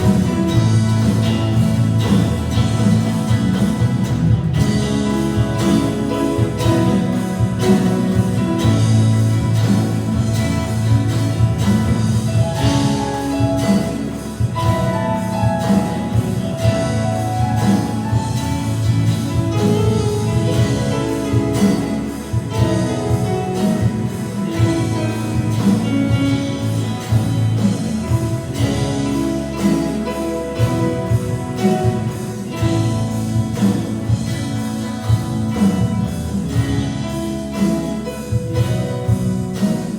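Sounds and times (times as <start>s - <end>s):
bass line: 0.0s - 39.9s
drums keeping a steady beat: 0.0s - 39.9s
guitar: 0.0s - 39.9s.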